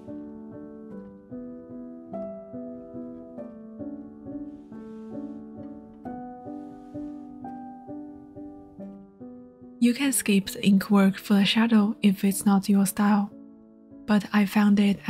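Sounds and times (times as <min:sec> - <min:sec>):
calm picked instrumental music: 0:00.0 - 0:15.0.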